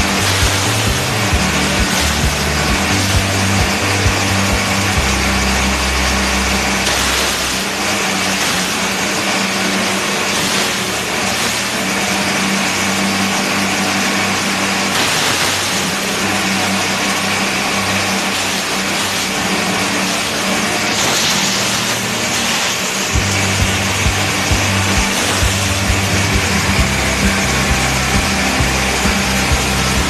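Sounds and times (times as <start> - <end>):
forage chopper shredding stalks: 0.0 - 30.0
small engine running under load: 0.0 - 30.0.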